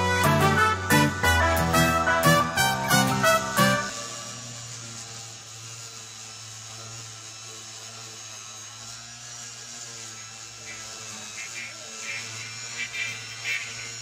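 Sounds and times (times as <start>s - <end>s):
electric sander humming: 0.0s - 14.0s.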